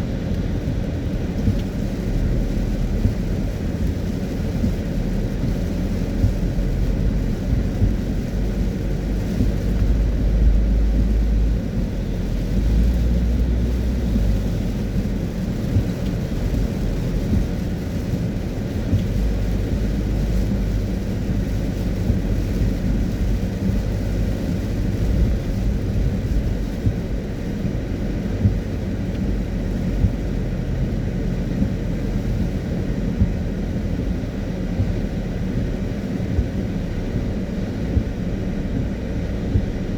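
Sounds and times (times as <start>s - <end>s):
car driving on wet road: 0.0s - 39.9s.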